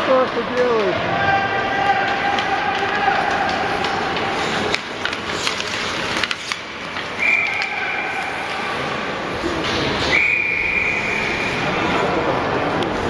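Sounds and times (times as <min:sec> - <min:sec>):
busy rink background noise: 0:00.0 - 0:13.0
hockey sticks and puck clacking: 0:00.0 - 0:13.0.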